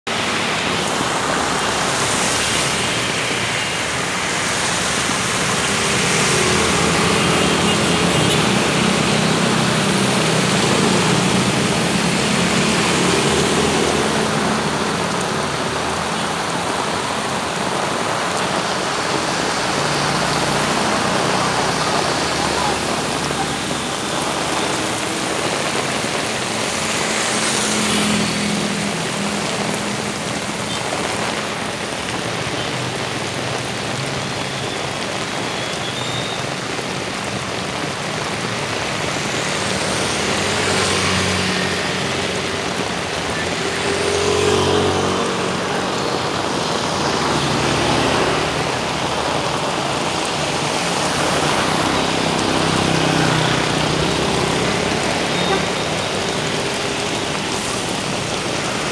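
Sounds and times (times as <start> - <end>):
heavy rain on flooded road: 0.0 - 58.9
vehicles passing through water: 0.0 - 58.9.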